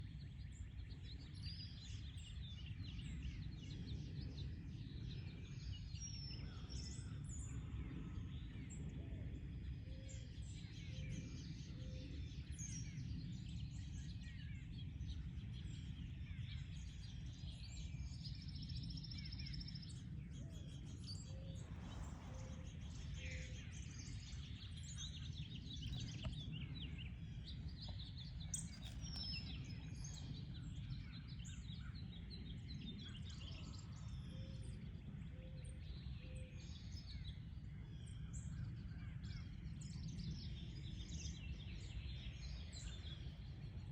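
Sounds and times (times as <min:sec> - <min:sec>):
songbirds chirping: 0:00.0 - 0:43.9
low background rumble: 0:00.1 - 0:43.9.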